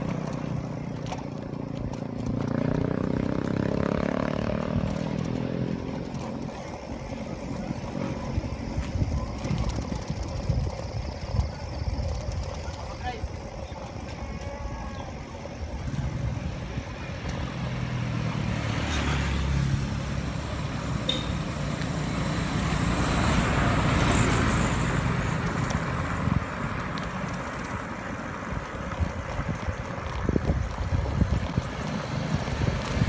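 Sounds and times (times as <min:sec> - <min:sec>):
motor vehicles passing: 0:00.0 - 0:33.0.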